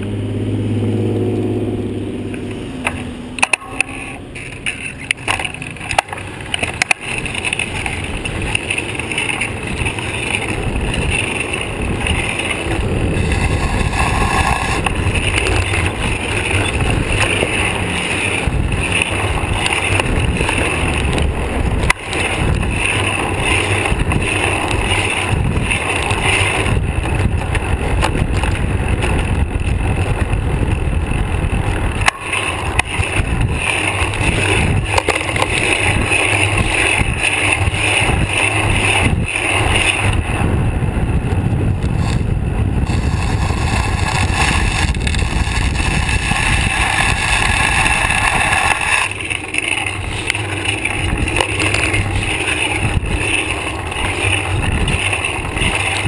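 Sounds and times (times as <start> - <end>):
bicycle road noise: 0.0 - 56.0
wind rush: 3.3 - 56.0.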